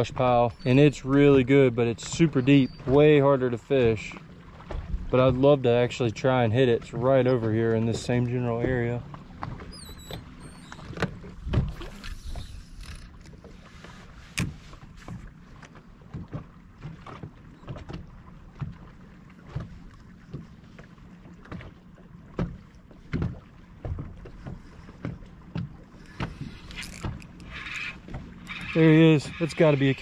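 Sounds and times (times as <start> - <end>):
waves slapping boat hull: 0.0 - 30.0.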